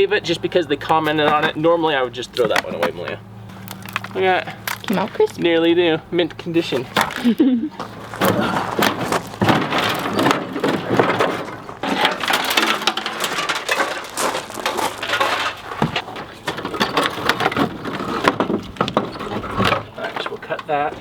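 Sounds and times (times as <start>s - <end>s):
rusted car parts cracking: 0.0s - 21.0s.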